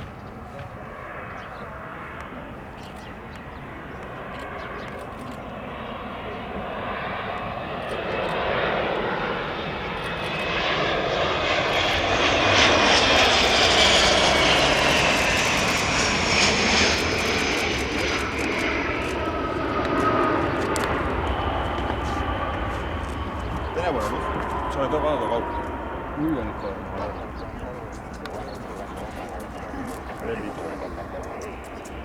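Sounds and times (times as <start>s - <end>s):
jet passing with rush and whine: 5.4s - 32.0s.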